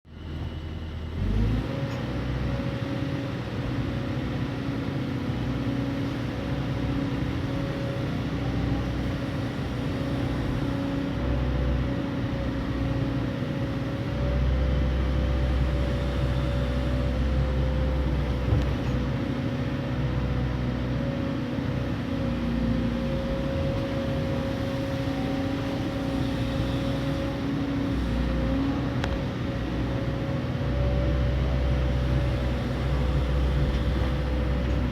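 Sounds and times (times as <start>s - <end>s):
excavator diesel engine rumble: 0.1s - 34.9s.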